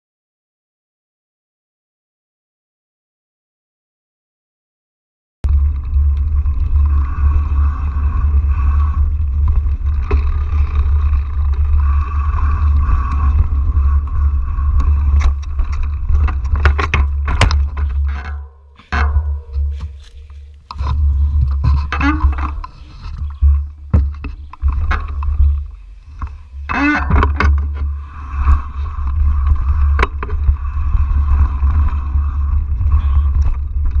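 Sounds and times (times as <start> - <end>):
bike rattling: 5.4 - 34.0
knobby tyres on dirt: 5.4 - 34.0
wind rumble on microphone: 5.4 - 34.0.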